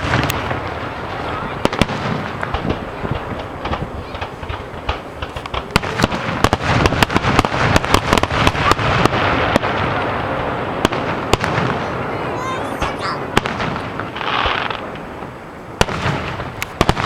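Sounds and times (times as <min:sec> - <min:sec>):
fireworks bangs: 0:00.0 - 0:17.0
fireworks crackling rumble: 0:00.0 - 0:17.0.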